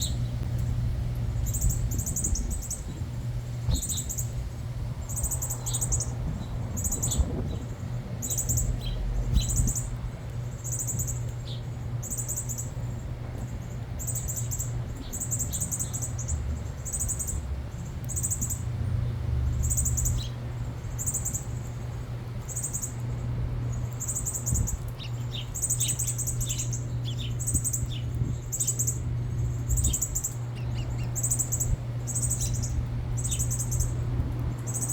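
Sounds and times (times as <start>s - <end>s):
birds chirping: 0.0s - 0.6s, 1.4s - 4.4s, 5.0s - 34.9s
steady low hum: 0.0s - 34.9s.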